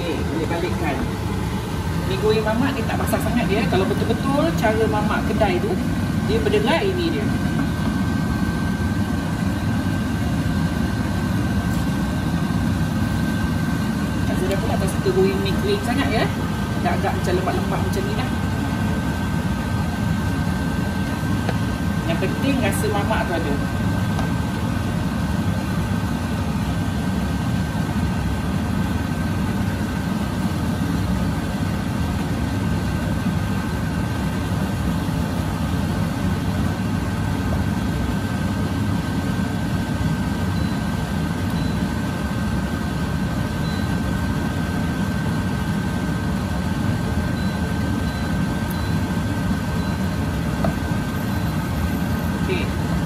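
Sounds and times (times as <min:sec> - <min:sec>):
extractor fan roaring: 0:00.0 - 0:53.0.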